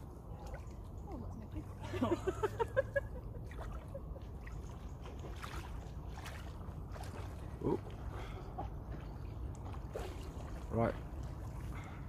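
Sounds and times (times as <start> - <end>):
water sloshing around legs: 0.0 - 12.0.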